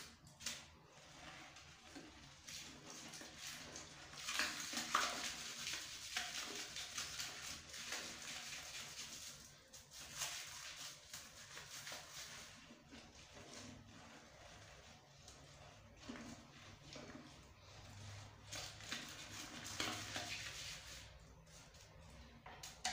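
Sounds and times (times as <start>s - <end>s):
toilet brush scrubbing bowl: 0.0s - 22.9s.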